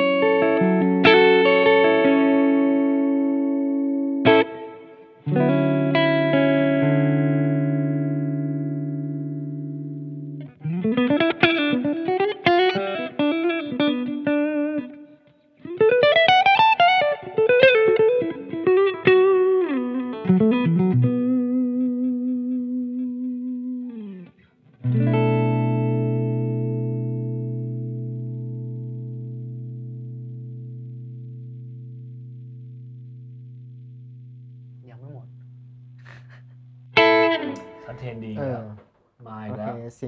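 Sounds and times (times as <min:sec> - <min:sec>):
clean electric guitar playing: 0:00.0 - 0:38.8.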